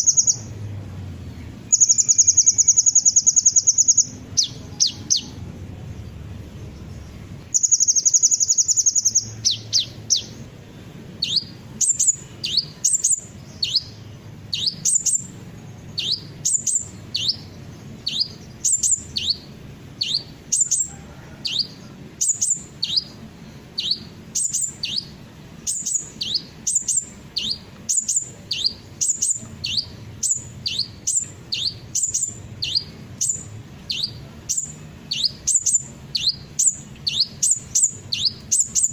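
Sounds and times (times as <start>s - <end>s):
sharp high bird chirps: 0.0s - 0.6s, 1.5s - 5.4s, 6.6s - 38.9s
sunbird buzzy high trill: 0.0s - 38.9s.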